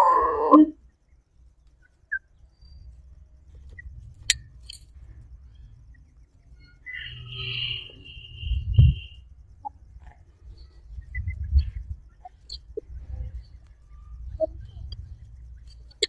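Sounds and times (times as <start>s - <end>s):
faint low rumble: 0.5s - 16.0s.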